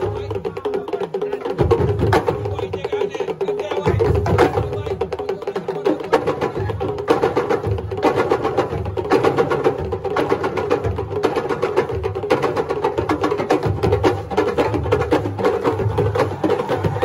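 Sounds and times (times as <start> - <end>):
deeper drum beats: 0.0 - 17.0
fast sharp drum strikes: 0.0 - 17.0.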